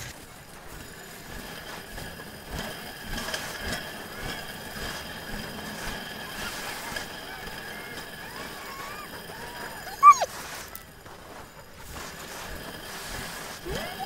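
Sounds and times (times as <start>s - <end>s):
sled rattling and creaking: 0.0s - 14.0s
steady hiss of runners on snow: 0.0s - 14.0s.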